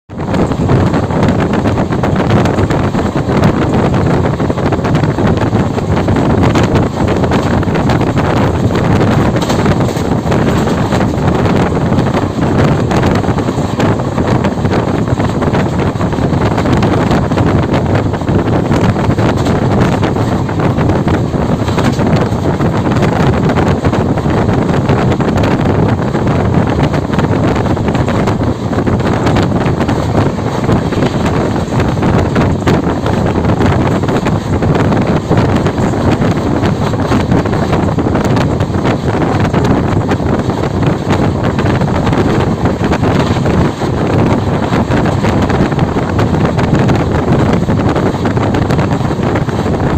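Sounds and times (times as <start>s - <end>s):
wind buffeting microphone: 0.1s - 49.9s.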